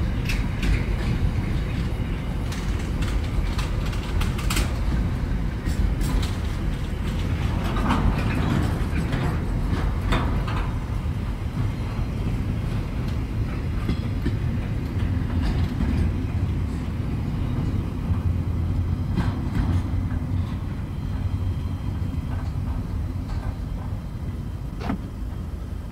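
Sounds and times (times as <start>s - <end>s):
train wheel clicks: 0.0s - 25.6s
freight train wagons rumbling: 0.0s - 25.9s.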